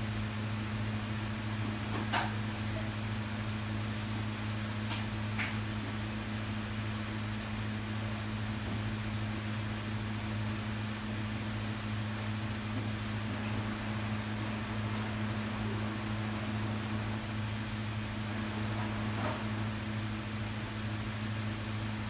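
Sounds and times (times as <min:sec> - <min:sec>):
kitchen appliance humming: 0:00.0 - 0:22.0.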